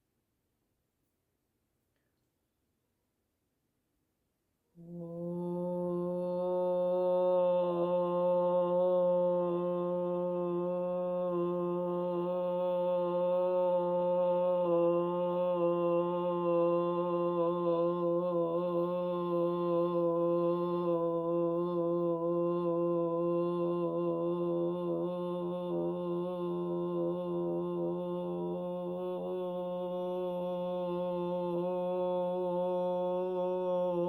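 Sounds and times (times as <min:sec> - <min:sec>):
low chant-like drone: 0:04.8 - 0:34.0.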